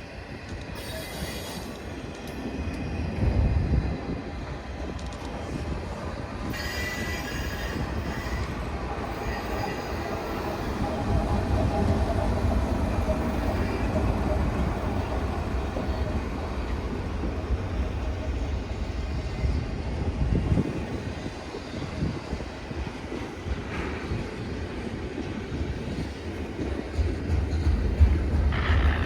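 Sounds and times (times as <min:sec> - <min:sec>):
train cars rolling past: 0:00.1 - 0:29.0.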